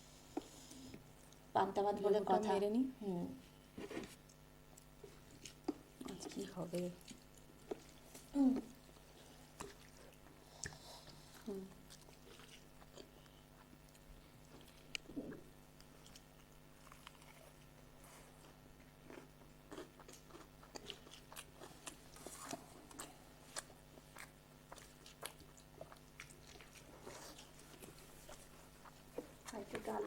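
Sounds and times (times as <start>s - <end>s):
chewing: 4.3s - 30.0s.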